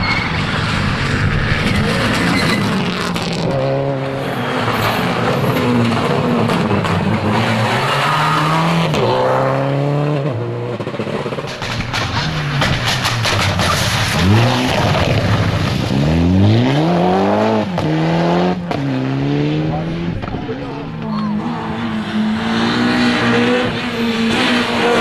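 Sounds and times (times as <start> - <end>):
rally car engines at full throttle: 0.0 - 25.0.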